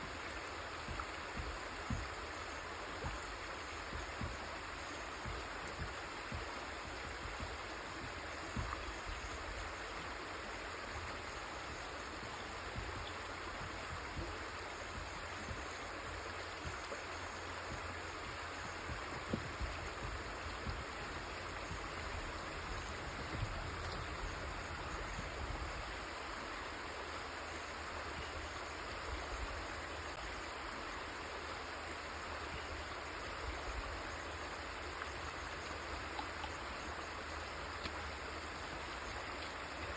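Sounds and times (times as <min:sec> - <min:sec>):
river water rushing over rocks: 0:00.0 - 0:39.9
water splashing and gurgling: 0:00.0 - 0:39.9.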